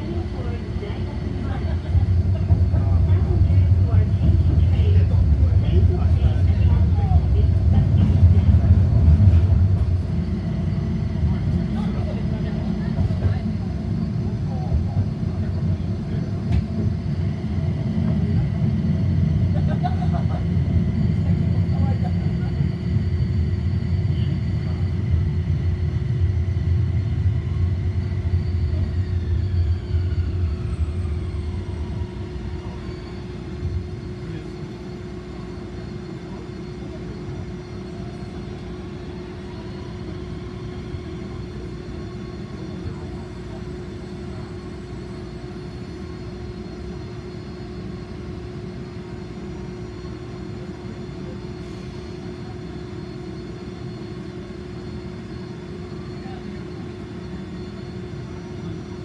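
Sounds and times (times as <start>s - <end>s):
tram running rumble: 0.0s - 59.0s.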